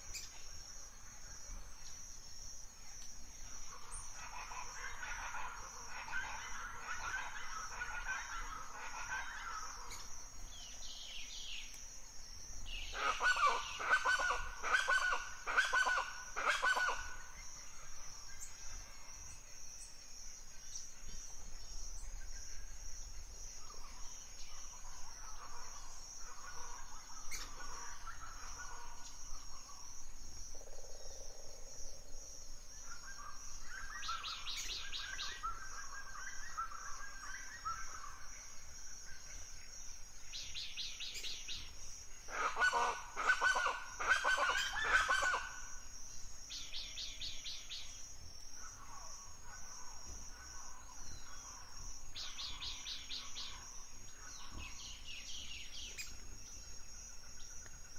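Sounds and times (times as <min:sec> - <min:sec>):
steady high-pitched hiss: 0:00.0 - 0:57.9.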